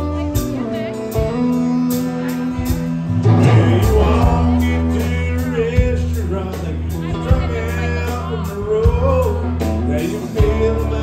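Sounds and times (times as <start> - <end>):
live rock band playing: 0.0 - 11.0
man singing: 1.3 - 11.0.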